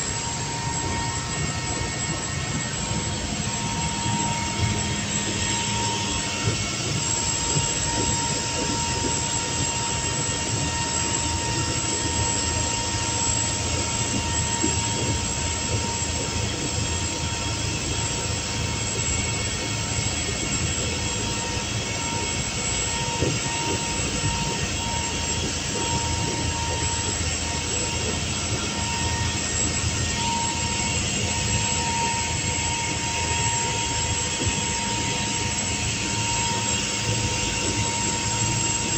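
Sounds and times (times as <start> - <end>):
boat engines droning: 0.0 - 38.9
faint high whine: 0.0 - 38.9.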